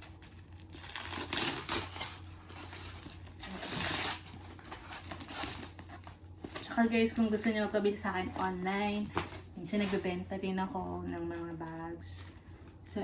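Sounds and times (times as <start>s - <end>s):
plastic packaging crinkling and tearing: 0.0s - 12.5s
low steady hum: 0.0s - 13.0s.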